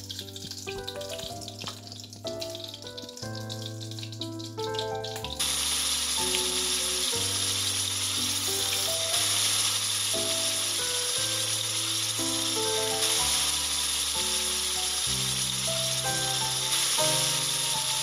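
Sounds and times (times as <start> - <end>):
background music: 0.0 - 18.0
vegetables sizzling in a pan: 0.0 - 18.0.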